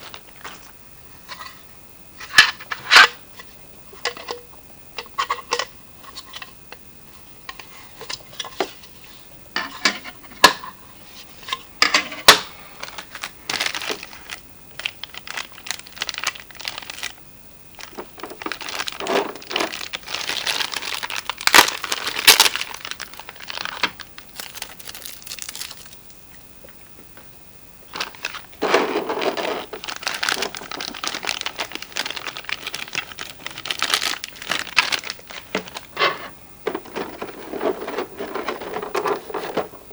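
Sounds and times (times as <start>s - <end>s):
plastic and paper crinkling: 0.0s - 4.4s, 7.2s - 26.3s, 26.9s - 39.9s.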